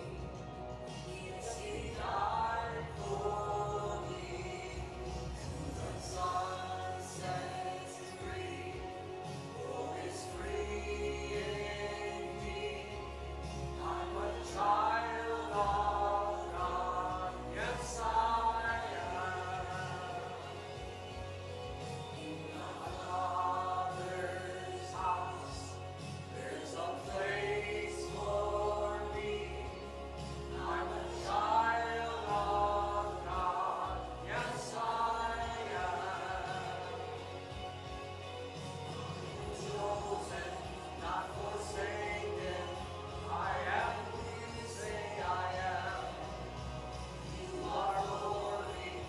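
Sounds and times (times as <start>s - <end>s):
choir singing worship song: 0.0s - 49.0s
musical accompaniment: 0.0s - 49.0s.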